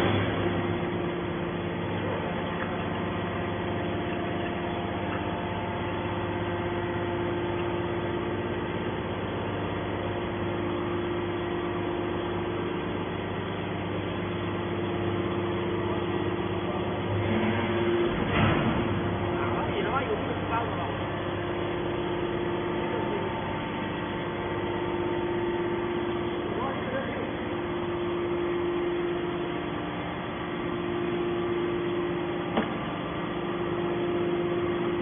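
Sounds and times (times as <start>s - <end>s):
baling press motor humming: 0.0s - 35.0s.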